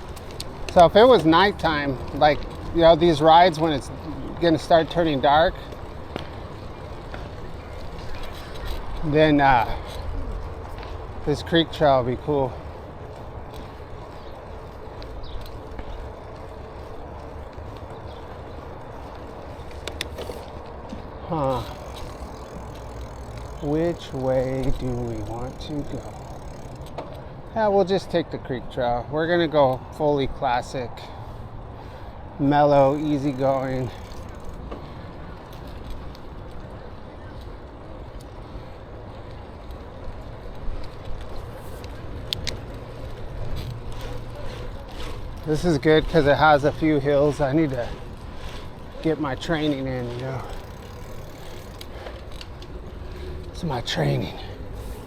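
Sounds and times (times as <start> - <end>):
bicycle clicks and rattles: 0.0 - 55.0
tyre and wind rumble: 0.0 - 55.0.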